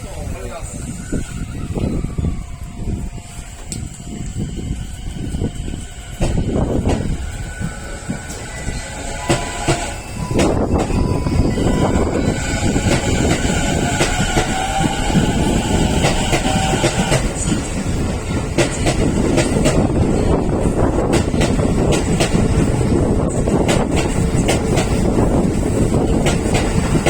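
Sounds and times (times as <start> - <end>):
electric train rumble: 0.0 - 27.0
train motor whine: 0.8 - 27.0.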